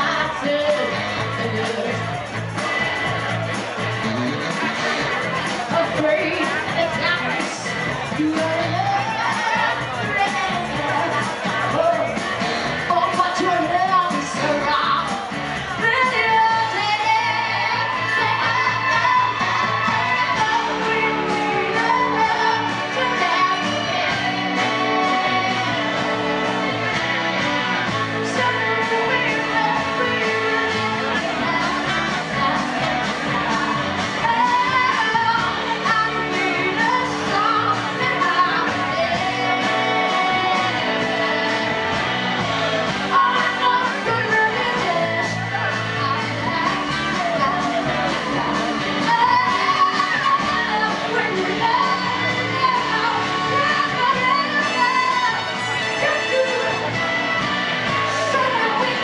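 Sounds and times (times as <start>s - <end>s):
woman singing lead: 0.0s - 3.8s, 4.7s - 59.0s
bass guitar: 0.0s - 59.0s
drums: 0.0s - 59.0s
electric guitar: 0.0s - 59.0s.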